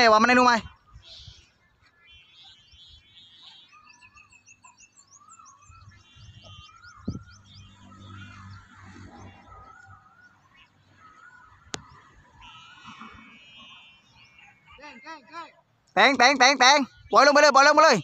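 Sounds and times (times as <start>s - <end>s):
kite hummer wavering hum: 0.0s - 17.8s
small birds chirping: 0.0s - 18.0s.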